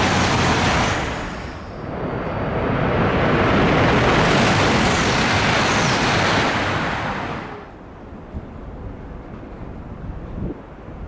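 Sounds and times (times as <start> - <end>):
high-speed train rushing past: 0.0 - 11.0.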